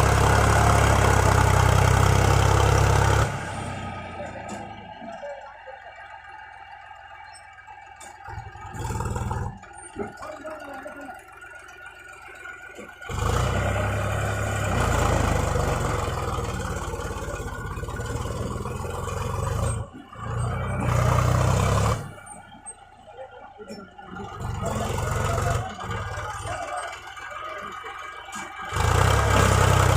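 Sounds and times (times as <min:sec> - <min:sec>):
heavy diesel engine running hard: 0:00.0 - 0:29.9.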